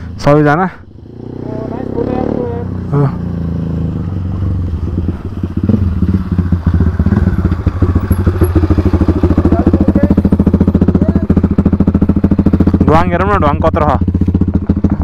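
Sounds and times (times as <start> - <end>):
dirt bike engine: 0.0 - 15.0.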